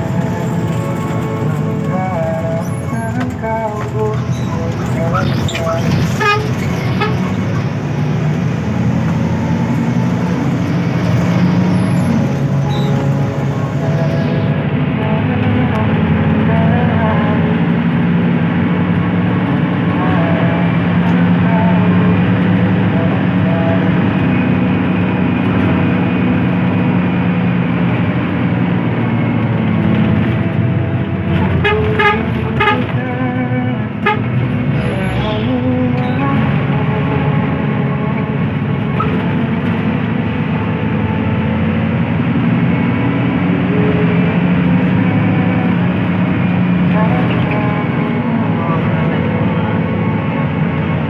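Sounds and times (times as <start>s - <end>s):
bus diesel engine droning: 0.0s - 51.0s
road noise: 0.0s - 51.0s.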